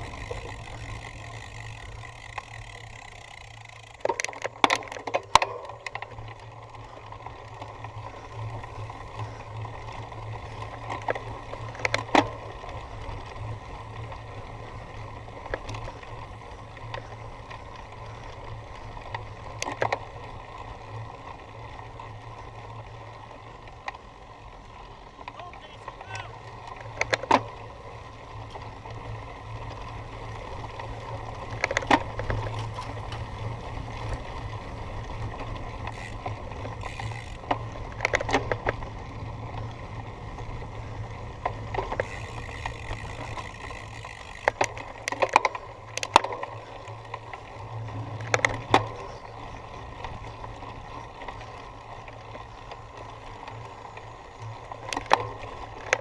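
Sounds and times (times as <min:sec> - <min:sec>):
bike clattering rattles: 0:00.0 - 0:22.9, 0:25.1 - 0:56.0
bike rolling over rough ground: 0:00.0 - 0:56.0.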